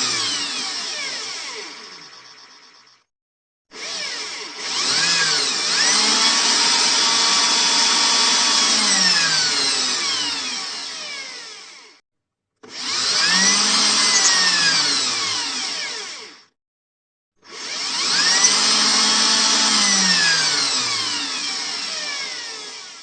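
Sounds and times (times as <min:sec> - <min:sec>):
electric drill motor: 0:00.0 - 0:03.1, 0:03.7 - 0:12.0, 0:12.6 - 0:16.6, 0:17.4 - 0:23.0.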